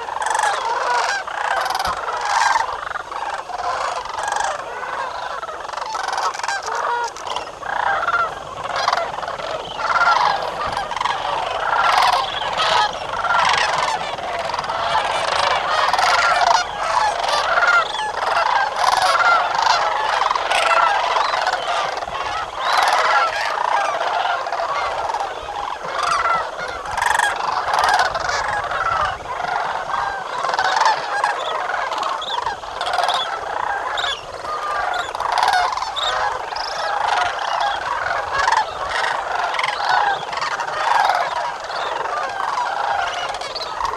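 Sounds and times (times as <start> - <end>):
flock of birds honking: 0.0 - 43.9.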